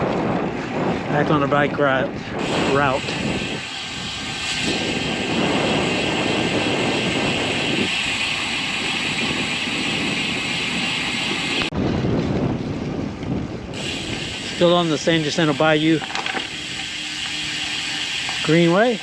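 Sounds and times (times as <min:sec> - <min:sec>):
bicycle road noise: 0:00.0 - 0:19.0
wind rushing: 0:00.0 - 0:19.0.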